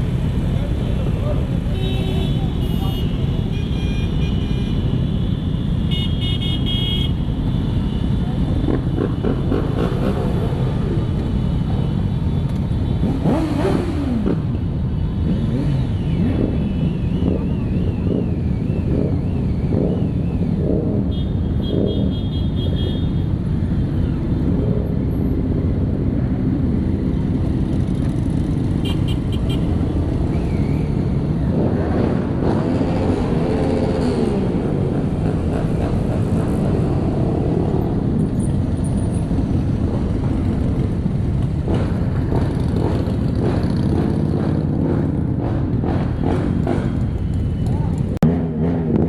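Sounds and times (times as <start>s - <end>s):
many motorcycle engines revving: 0.0s - 49.0s.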